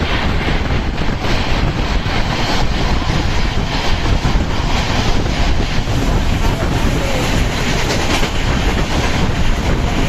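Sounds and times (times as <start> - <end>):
train rumble and air rush: 0.0 - 10.0.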